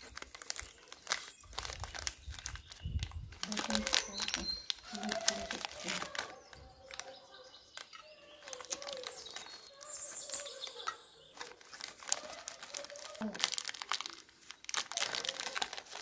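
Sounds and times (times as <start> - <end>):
wrapper crinkling: 0.0 - 16.0.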